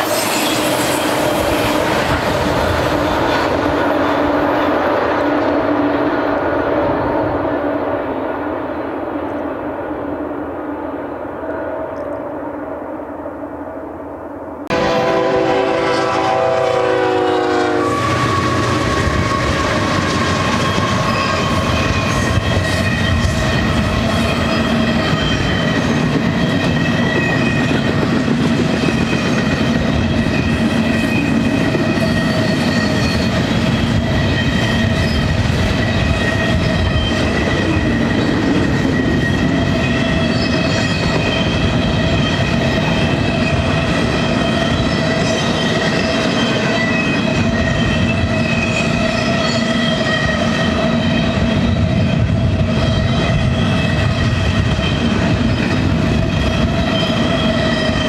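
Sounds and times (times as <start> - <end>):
freight train wheels rumbling: 0.0 - 13.1, 14.4 - 58.0.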